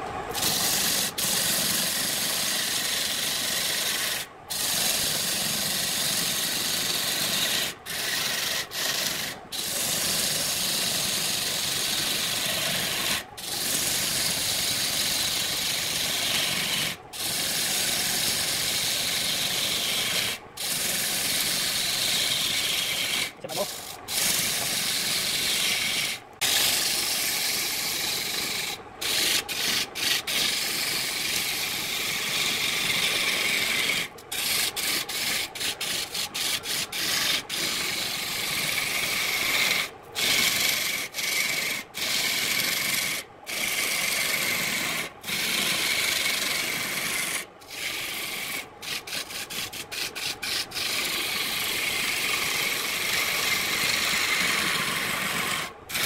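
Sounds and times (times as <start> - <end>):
wood lathe turning tool scraping: 0.0 - 56.0.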